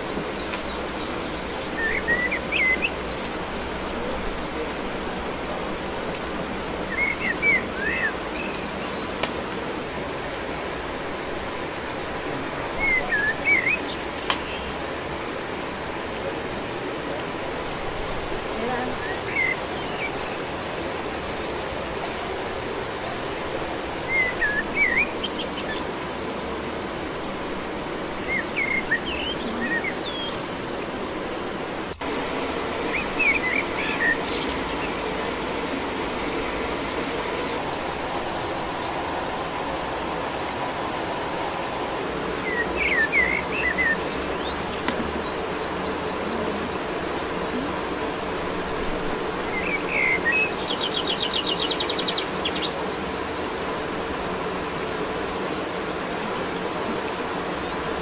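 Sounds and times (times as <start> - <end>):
small birds chirping: 0.0 - 58.0
steady rushing background noise: 0.0 - 58.0.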